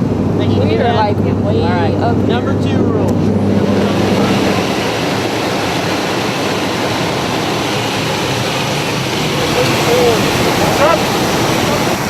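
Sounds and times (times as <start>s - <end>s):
plane engine and propeller drone: 0.0s - 12.0s
rushing air: 0.0s - 12.0s.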